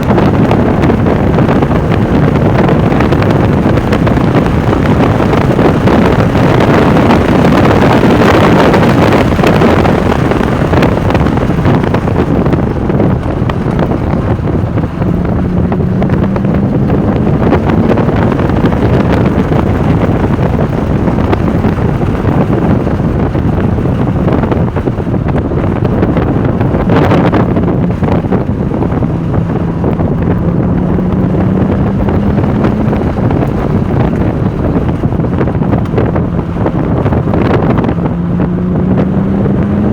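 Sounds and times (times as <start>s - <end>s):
car engine running hard: 0.0s - 39.9s
wind noise on microphone: 0.0s - 39.9s.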